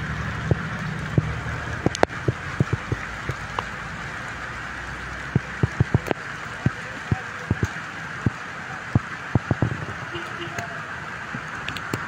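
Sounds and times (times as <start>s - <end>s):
big raindrops plopping: 0.0s - 12.0s
low traffic rumble: 0.0s - 12.0s
rain hissing on wet street: 0.0s - 12.0s.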